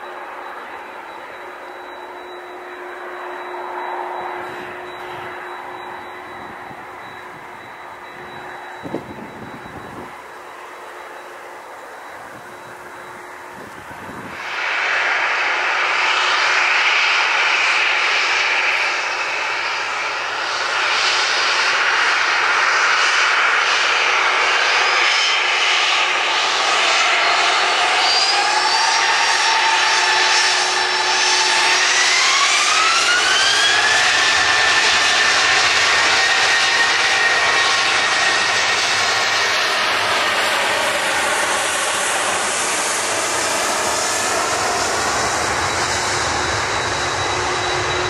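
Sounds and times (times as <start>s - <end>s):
jet engines whining: 0.0s - 48.0s.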